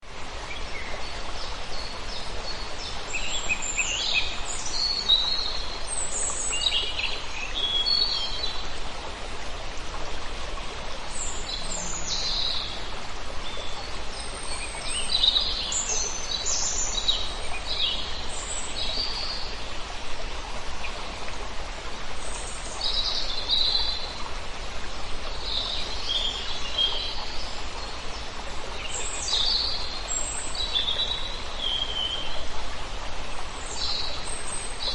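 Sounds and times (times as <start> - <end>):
flowing water rushing: 0.0 - 34.9.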